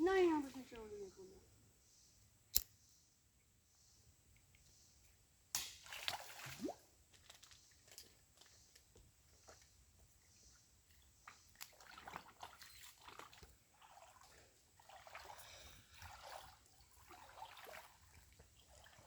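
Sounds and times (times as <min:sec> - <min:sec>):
creek water sloshing and trickling: 0:00.0 - 0:01.3, 0:04.2 - 0:19.0.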